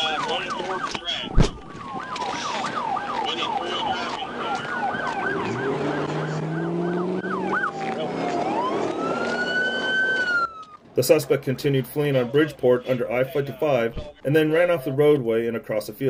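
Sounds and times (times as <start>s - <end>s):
police car sirens: 0.0s - 15.8s.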